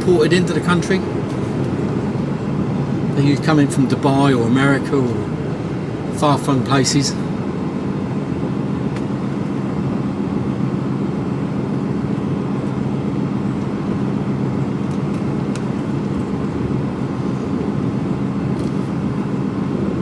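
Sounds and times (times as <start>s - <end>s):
diesel lorry engine running: 0.0s - 20.0s.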